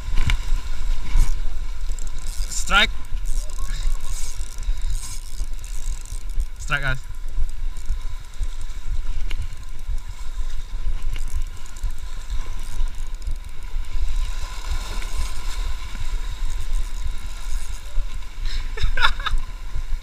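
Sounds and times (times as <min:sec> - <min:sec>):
sea water washing against rocks: 0:00.0 - 0:20.0
wind buffeting microphone: 0:00.0 - 0:20.0
fishing reel cranking: 0:00.1 - 0:19.8.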